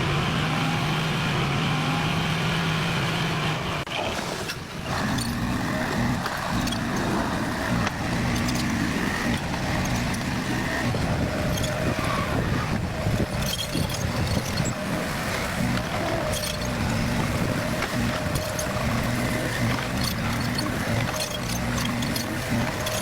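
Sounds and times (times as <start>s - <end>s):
diesel construction machinery running: 0.0s - 23.0s.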